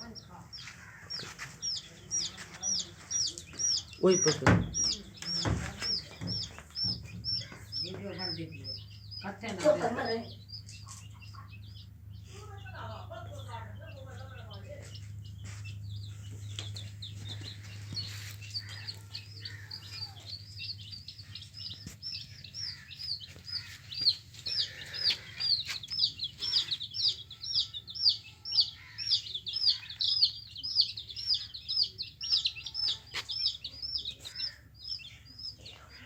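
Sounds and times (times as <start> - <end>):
baby chicks peeping: 0.0 - 36.0.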